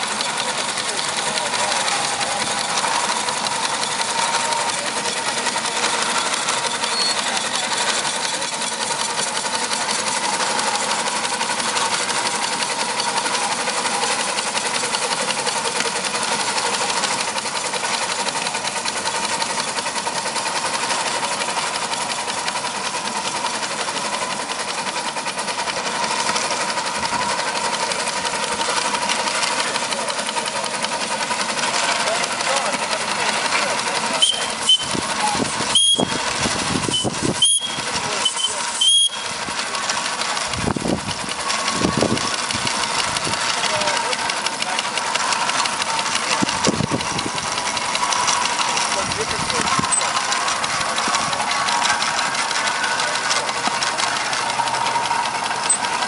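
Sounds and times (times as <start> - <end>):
steam engine exhaust beats: 0.0 - 56.0
steam engine governor: 0.0 - 56.0.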